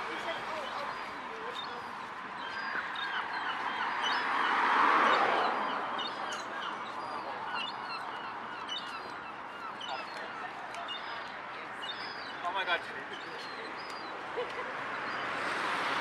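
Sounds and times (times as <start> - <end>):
gulls calling: 0.0 - 15.4.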